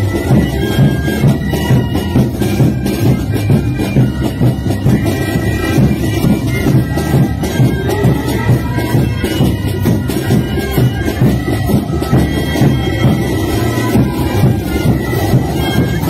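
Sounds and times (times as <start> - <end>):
reedy wind instruments melody: 0.0 - 16.0
steady drum beat: 0.0 - 16.0.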